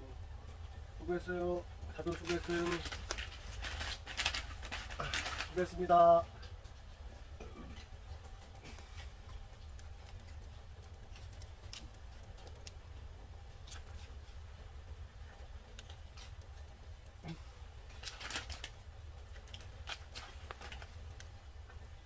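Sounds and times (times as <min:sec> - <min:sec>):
steady low hum: 0:00.0 - 0:22.0
wood fire crackling: 0:00.0 - 0:22.0.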